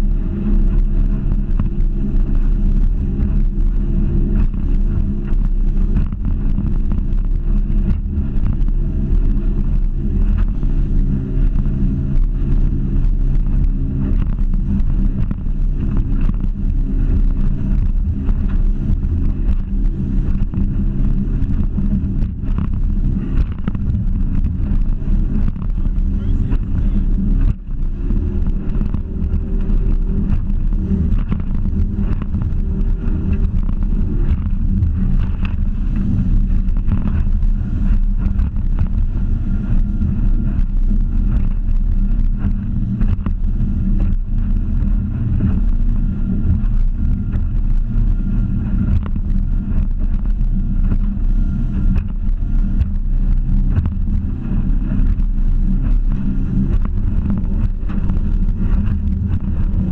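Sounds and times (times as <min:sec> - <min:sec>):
outboard motor running: 0:00.0 - 0:59.9
wind noise on microphone: 0:00.0 - 0:59.9.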